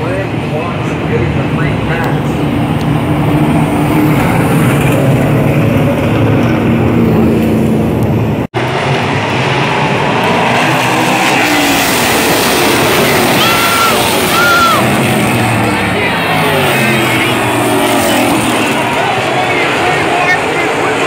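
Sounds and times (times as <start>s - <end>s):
race car engines roaring past: 0.0s - 21.0s.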